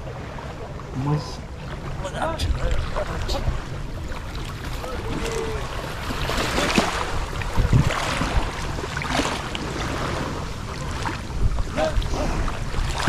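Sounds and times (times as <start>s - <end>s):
waves lapping against bank: 0.0s - 13.0s
wind on microphone: 1.4s - 13.0s.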